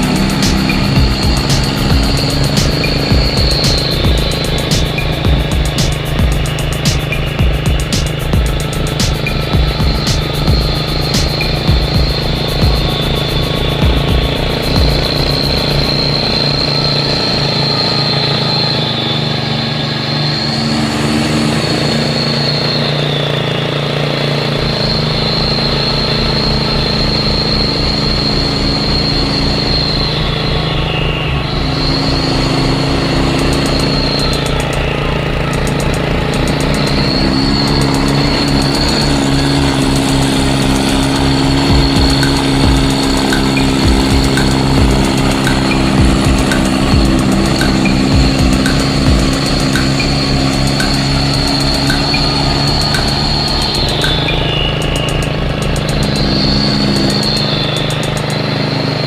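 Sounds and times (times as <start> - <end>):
high steady tone: 0.0 - 59.0
truck engine running: 0.0 - 59.0.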